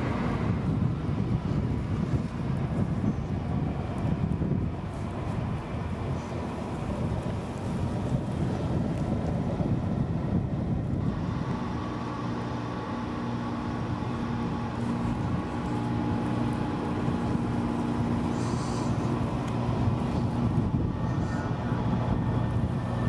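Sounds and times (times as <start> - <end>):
distant engine hum: 0.0 - 23.0
wind buffeting microphone: 0.0 - 23.0.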